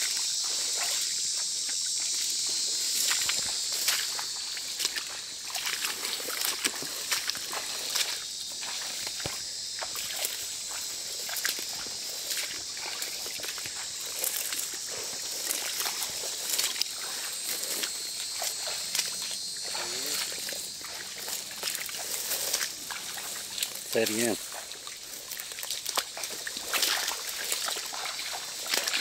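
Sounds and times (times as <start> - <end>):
footsteps through dense grass: 0.0 - 29.0
steady high hiss: 0.0 - 29.0
leaves swishing and crackling: 2.8 - 29.0.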